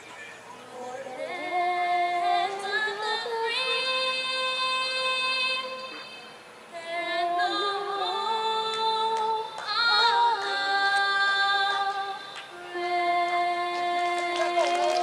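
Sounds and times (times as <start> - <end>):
woman singing long notes: 0.8 - 15.0.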